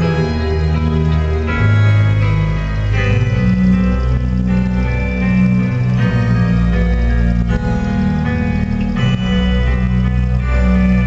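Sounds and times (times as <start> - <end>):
background music held notes: 0.0 - 11.0
steady low bass: 0.0 - 11.0.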